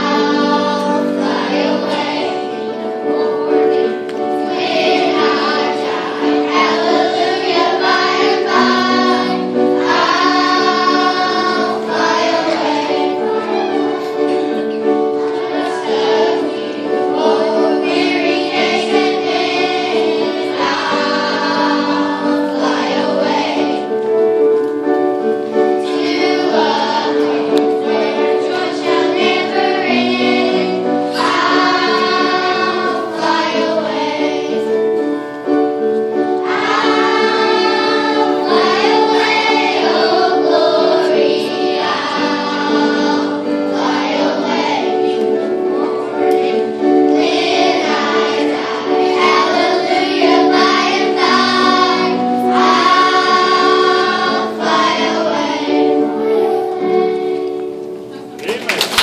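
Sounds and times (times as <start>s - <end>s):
children's choir singing gospel: 0.0s - 59.0s.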